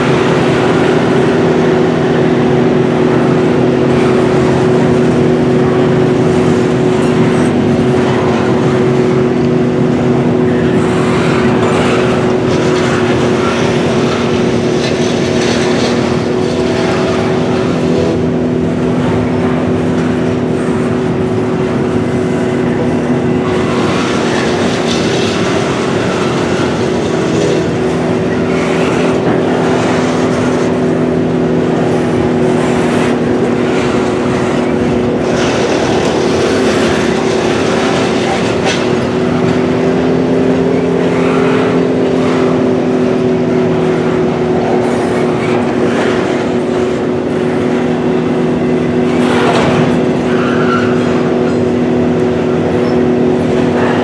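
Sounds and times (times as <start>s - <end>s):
constant hum: 0.0s - 54.0s
train wheels rumbling on rails: 0.0s - 54.0s.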